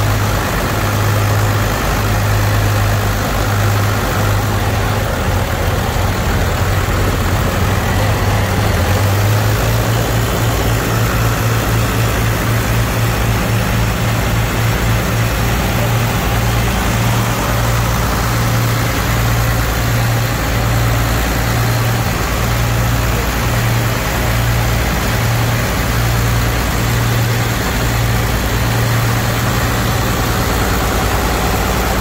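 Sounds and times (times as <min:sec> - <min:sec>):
throbbing diesel engine drone: 0:00.0 - 0:32.0.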